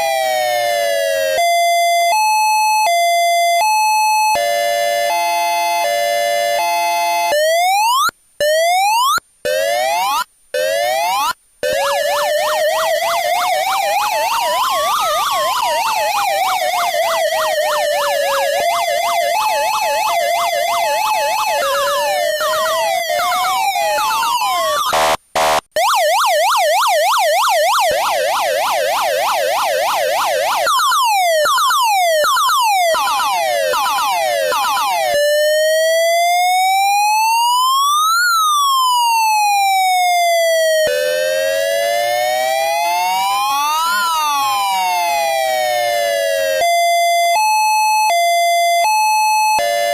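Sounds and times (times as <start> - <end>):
police siren wailing and yelping: 0.0 - 49.9.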